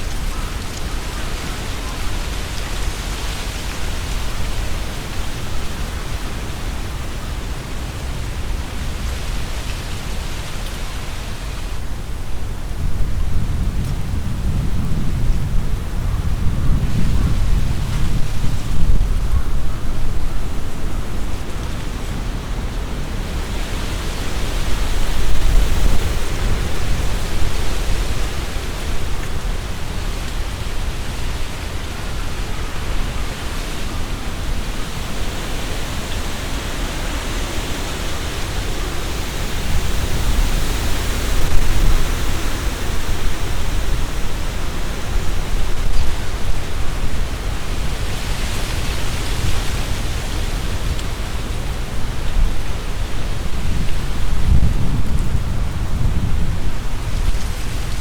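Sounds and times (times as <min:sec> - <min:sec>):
strong wind through tree leaves: 0:00.0 - 0:58.0.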